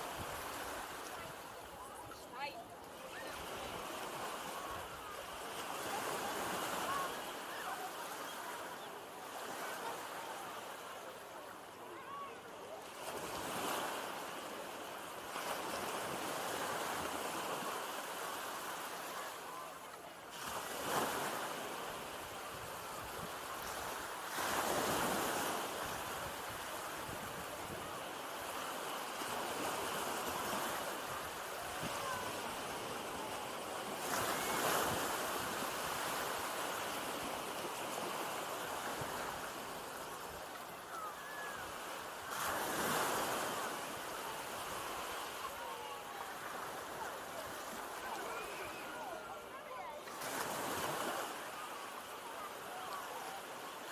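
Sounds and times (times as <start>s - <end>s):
waves breaking on sand: 0.0s - 53.9s.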